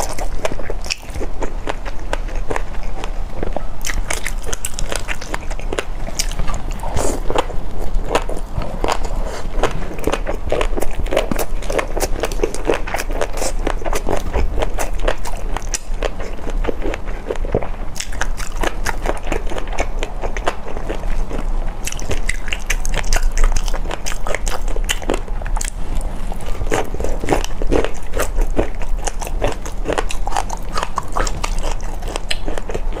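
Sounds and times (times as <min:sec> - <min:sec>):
crunchy food chewing: 0:00.0 - 0:33.0.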